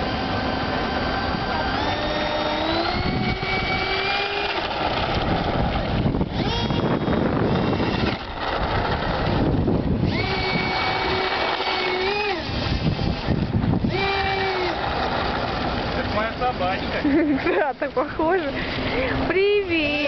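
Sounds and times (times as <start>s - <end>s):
electric ducted fan whining: 0.0s - 20.0s.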